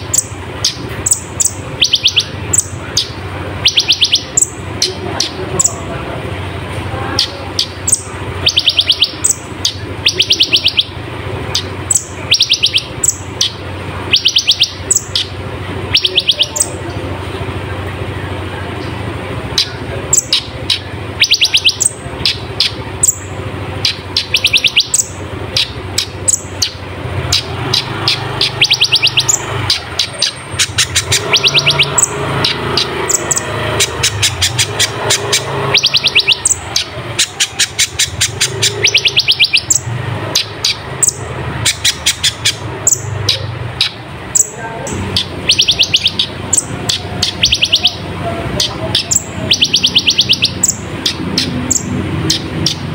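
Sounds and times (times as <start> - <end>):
bird singing rapid trills: 0.0 - 52.9
steady low hum: 0.0 - 52.9.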